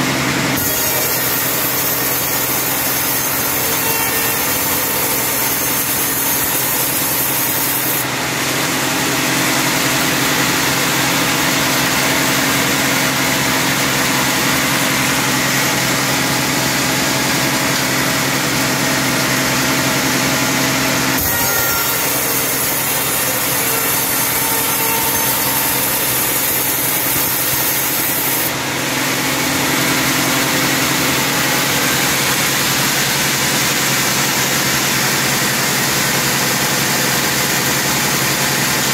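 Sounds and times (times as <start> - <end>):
sawmill machinery running: 0.0 - 38.9
band saw ripping a log: 0.2 - 38.9.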